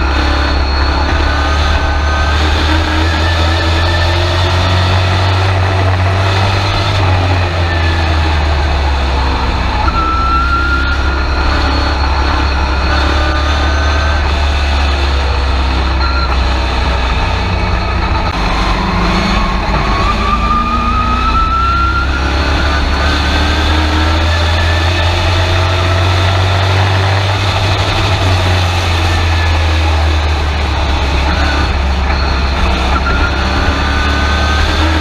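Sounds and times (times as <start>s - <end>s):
truck engine low drone: 0.0s - 35.0s.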